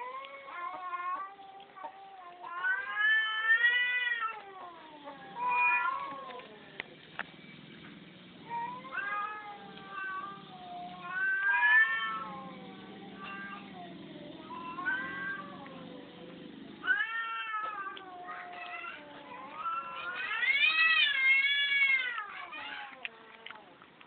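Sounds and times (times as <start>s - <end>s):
cat meowing: 0.0s - 6.7s, 8.5s - 23.7s
faint low hum: 0.0s - 24.0s.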